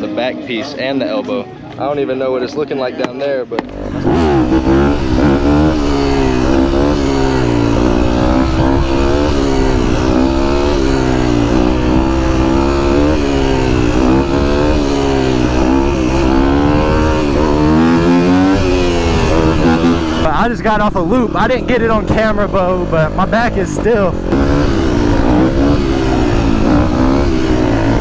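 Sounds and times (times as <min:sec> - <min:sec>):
dirt bike engine revving: 0:03.6 - 0:28.0.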